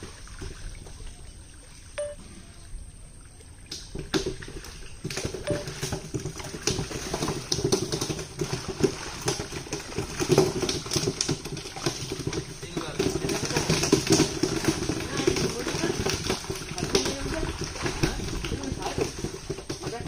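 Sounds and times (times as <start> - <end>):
splashing through muddy water: 0.0 - 20.0.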